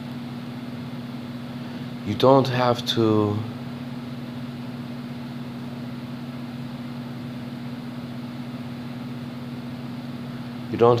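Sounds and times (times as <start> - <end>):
low mechanical hum with hiss: 0.0 - 11.0.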